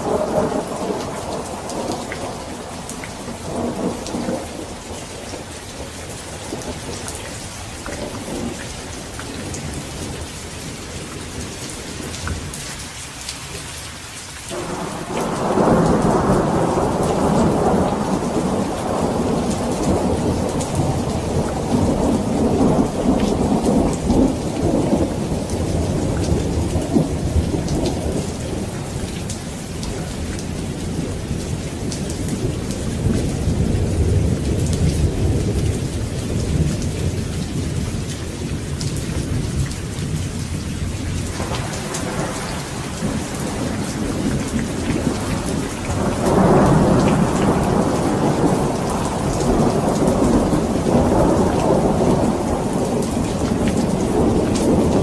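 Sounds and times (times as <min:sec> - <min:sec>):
rolling thunder: 0:00.0 - 0:12.6, 0:14.5 - 0:55.0
steady rain: 0:00.0 - 0:55.0.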